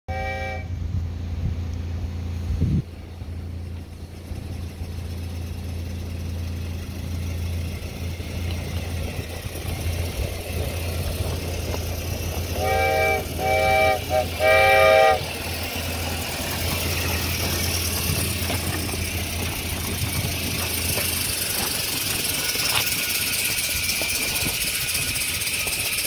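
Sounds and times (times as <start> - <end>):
locomotive air exhaust: 0.1 - 26.0
low hum: 0.1 - 26.0.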